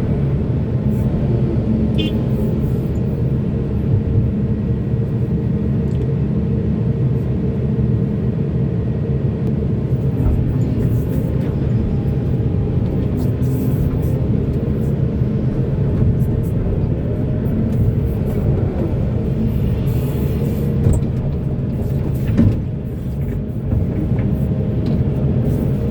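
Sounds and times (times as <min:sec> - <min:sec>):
diesel engine rumbling: 0:00.0 - 0:25.9.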